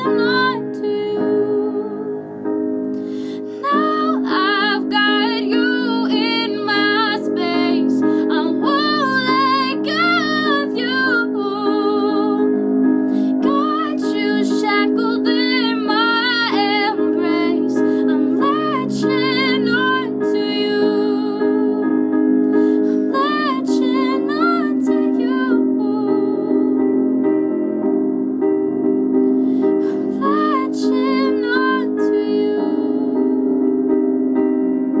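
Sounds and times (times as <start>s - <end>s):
woman singing a ballad: 0.0s - 27.3s, 29.4s - 34.3s
instrumental accompaniment: 0.0s - 35.0s.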